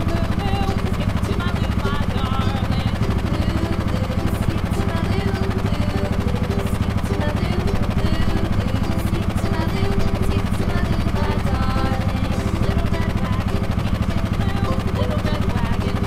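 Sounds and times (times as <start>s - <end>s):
engine pulsing throb: 0.0s - 16.0s.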